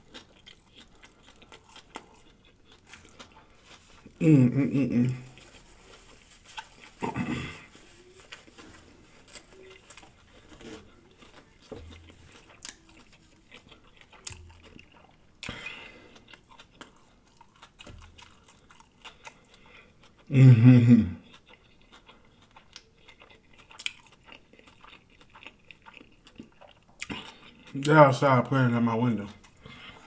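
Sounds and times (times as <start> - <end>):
food being chewed and crunched: 0.0 - 20.4, 21.1 - 30.0.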